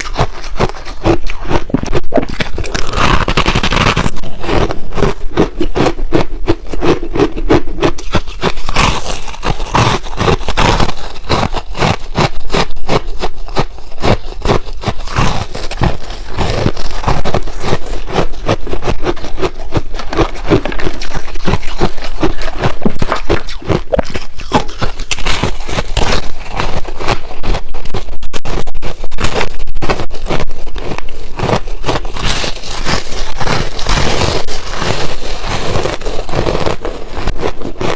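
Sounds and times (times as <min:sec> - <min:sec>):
ice being chewed: 0:00.0 - 0:37.9.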